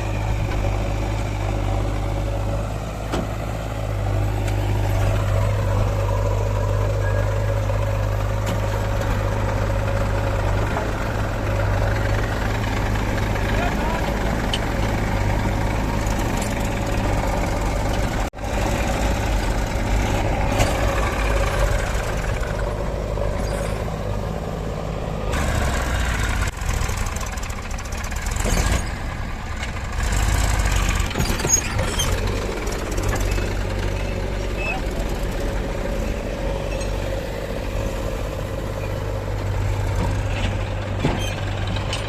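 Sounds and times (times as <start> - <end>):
backhoe loader diesel engine: 0.0 - 42.0
farm tractors running: 0.0 - 42.0.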